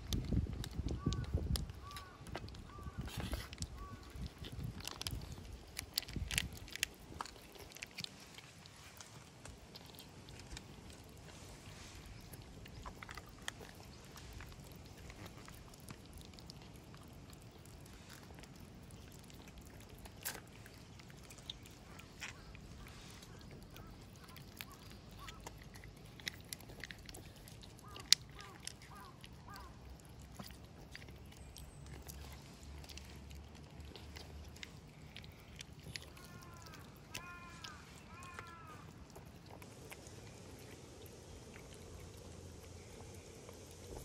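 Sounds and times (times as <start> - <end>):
cats chewing wet food: 0.0 - 44.0.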